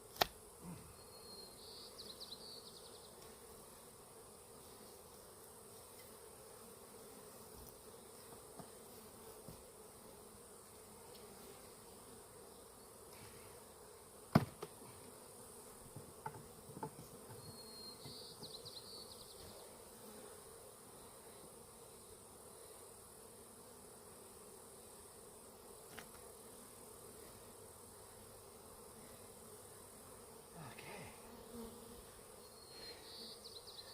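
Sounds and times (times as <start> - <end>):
honeybees buzzing: 0.0 - 33.9.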